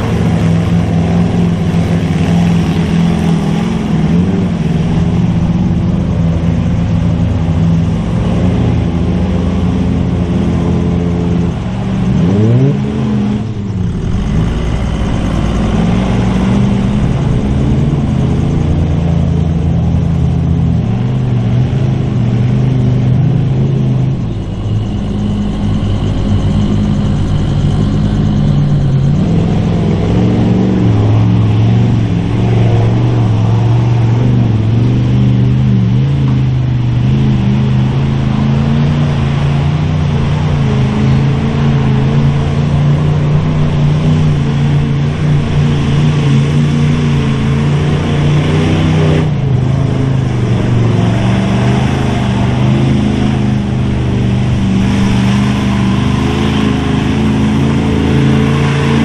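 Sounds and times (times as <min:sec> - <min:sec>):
truck engine revving in mud: 0:00.0 - 0:59.0.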